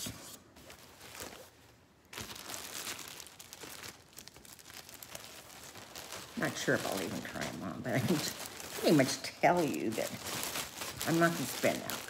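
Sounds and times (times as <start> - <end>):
packaging crinkling: 0.6 - 12.0.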